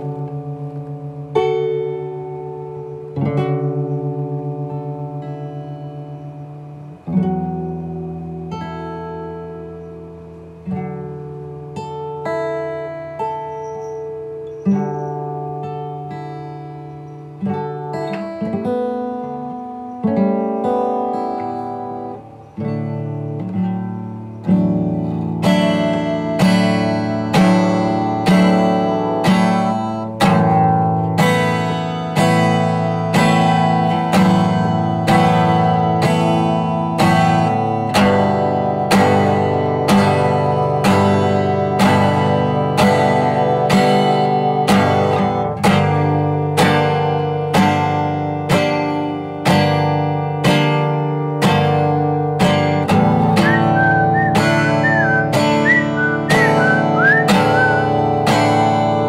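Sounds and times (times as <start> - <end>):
acoustic guitar chords: 0.0 - 59.0.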